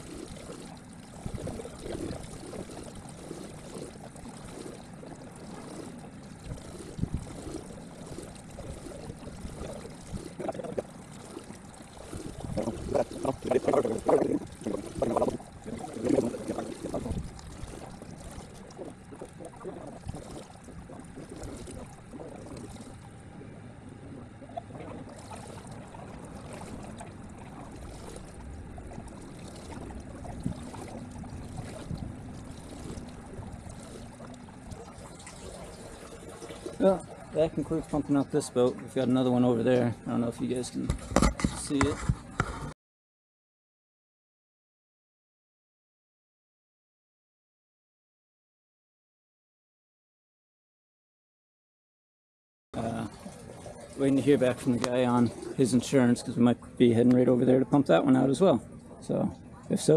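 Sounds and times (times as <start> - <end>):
water pouring and trickling: 0.0 - 23.4, 24.3 - 42.7, 52.8 - 59.9.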